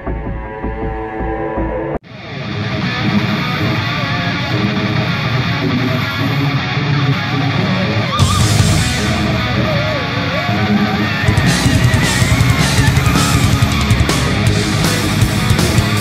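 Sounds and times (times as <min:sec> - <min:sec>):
rock music with guitar: 0:02.0 - 0:16.0.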